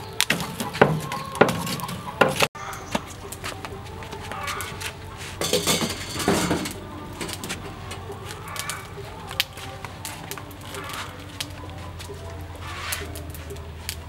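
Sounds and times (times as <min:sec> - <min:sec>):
metal grill grate scraping: 0:00.0 - 0:14.0.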